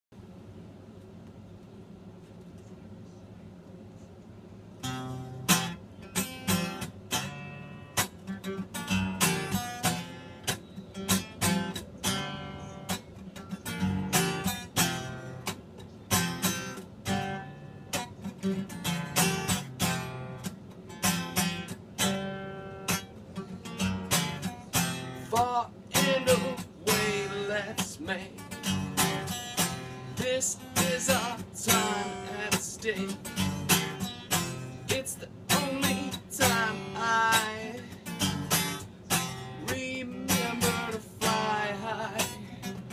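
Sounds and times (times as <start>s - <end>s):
acoustic guitar strumming: 4.8s - 42.9s.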